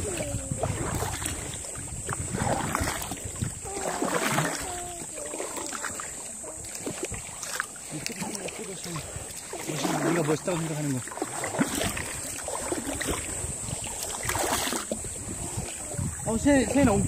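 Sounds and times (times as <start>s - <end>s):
paddle splashing in water: 0.0s - 17.0s.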